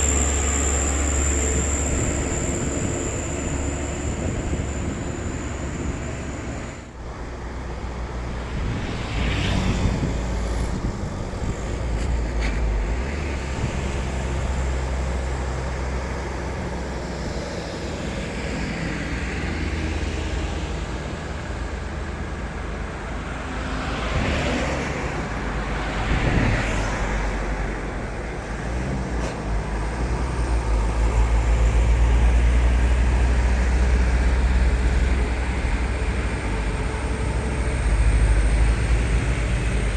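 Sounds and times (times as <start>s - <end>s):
diesel truck engine under load: 0.0s - 39.9s
road noise: 0.0s - 39.9s.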